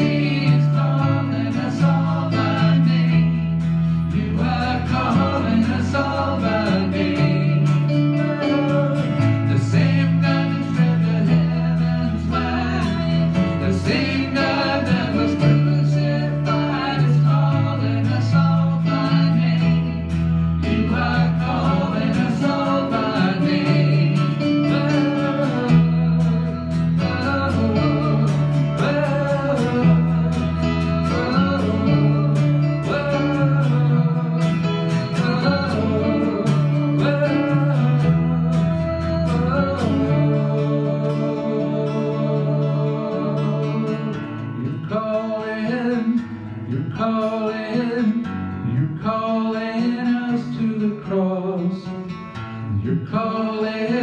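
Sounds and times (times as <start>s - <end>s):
instrumental accompaniment with beat: 0.0s - 44.8s
people singing into microphones: 0.0s - 52.0s, 52.6s - 54.0s.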